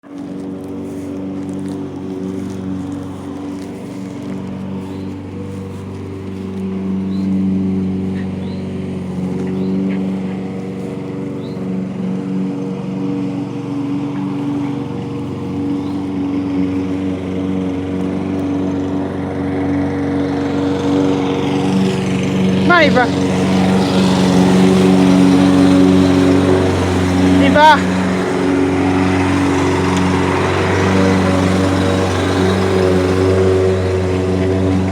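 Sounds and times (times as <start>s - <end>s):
motor running steadily: 0.0s - 34.9s.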